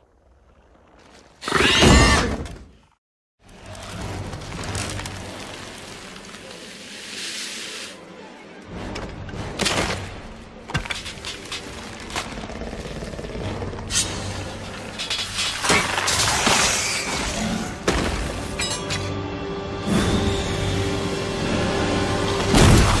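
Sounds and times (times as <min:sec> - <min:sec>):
action film score: 0:00.0 - 0:23.0.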